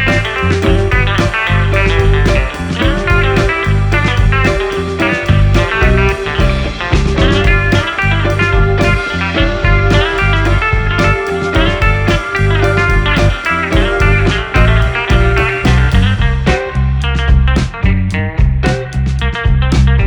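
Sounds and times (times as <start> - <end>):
instrumental rock music: 0.0 - 20.0.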